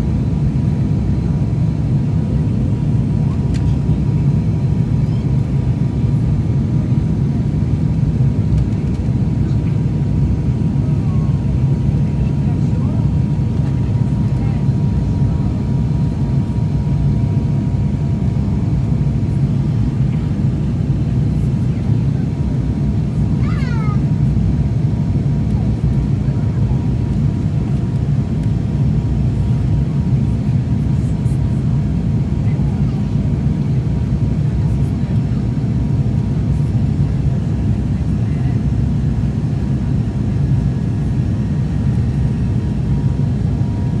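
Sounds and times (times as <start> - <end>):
aircraft cabin engine drone: 0.0 - 44.0.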